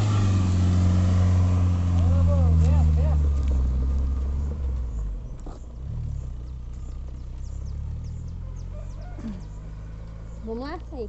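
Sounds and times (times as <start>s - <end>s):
car engine driving off: 0.0s - 11.0s.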